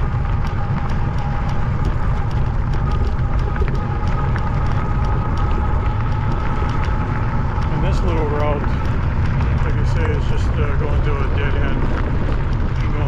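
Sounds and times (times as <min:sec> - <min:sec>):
road and tyre noise: 0:00.0 - 0:13.0
wind rumble on microphone: 0:00.0 - 0:13.0.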